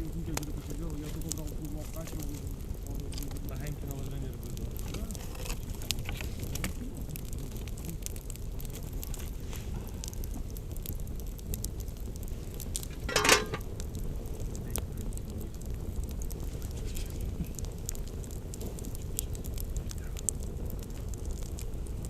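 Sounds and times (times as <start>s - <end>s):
campfire crackling and popping: 0.0s - 22.0s
low fire rumble: 0.0s - 22.0s.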